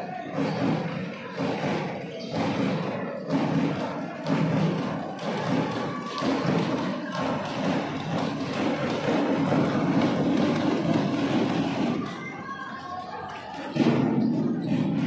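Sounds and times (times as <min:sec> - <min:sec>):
steady background din: 0:00.0 - 0:15.0.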